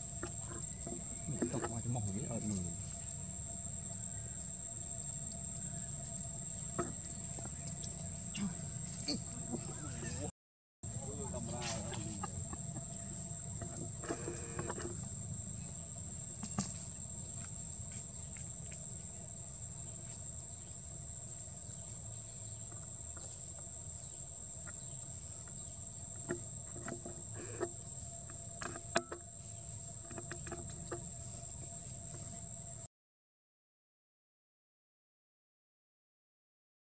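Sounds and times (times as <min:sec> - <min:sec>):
high-pitched insect drone: 0:00.0 - 0:10.3, 0:10.9 - 0:32.9.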